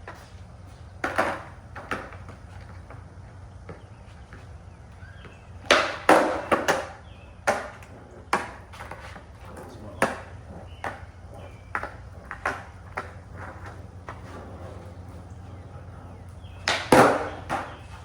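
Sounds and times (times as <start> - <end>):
skateboard clacking on pavement: 0.0 - 18.0.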